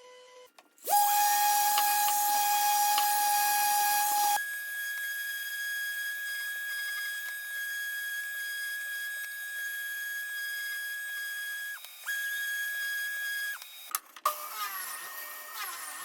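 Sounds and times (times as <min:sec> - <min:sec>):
woodworking machine whine: 0:00.8 - 0:16.0.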